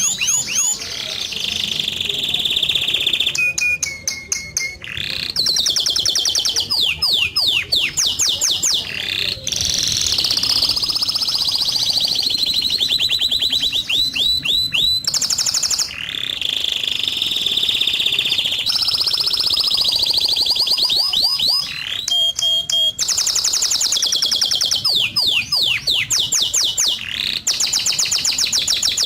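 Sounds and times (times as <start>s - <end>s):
bird-like whistled trills: 0.0s - 8.7s, 9.9s - 29.0s.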